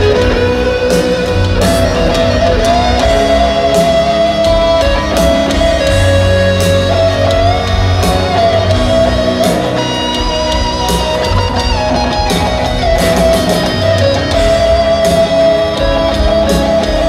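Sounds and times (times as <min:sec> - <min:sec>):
bass and drums: 0:00.0 - 0:17.0
electric guitar bending notes: 0:00.0 - 0:17.0.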